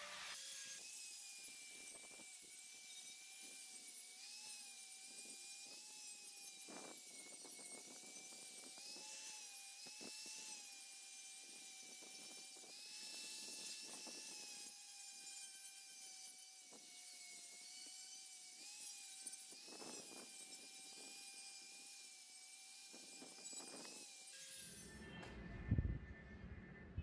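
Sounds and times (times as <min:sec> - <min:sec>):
angle grinder grinding metal: 0:00.0 - 0:25.4.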